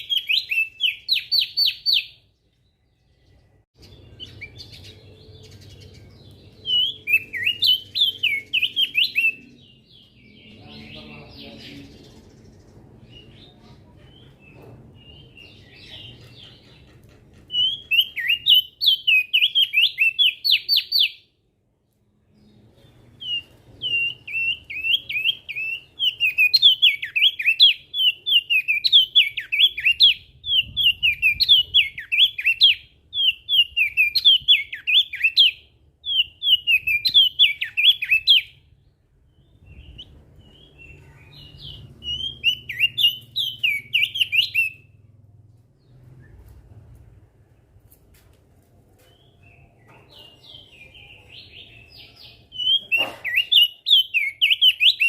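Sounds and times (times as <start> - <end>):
bird singing chattering song: 0.0 - 21.4, 22.3 - 45.1, 49.0 - 55.0.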